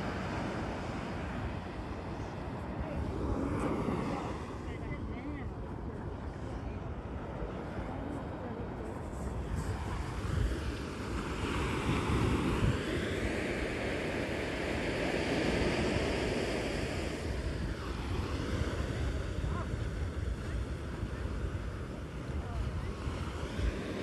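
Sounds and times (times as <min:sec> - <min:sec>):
ocean waves on sandy beach: 0:00.0 - 0:24.0.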